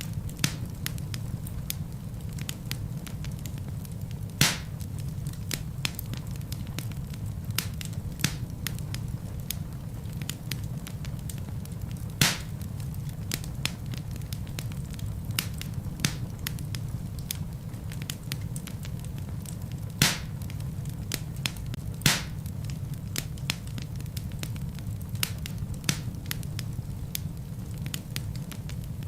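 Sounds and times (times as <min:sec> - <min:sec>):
burning logs popping: 0:00.0 - 0:29.0
wood fire crackling: 0:00.0 - 0:29.0.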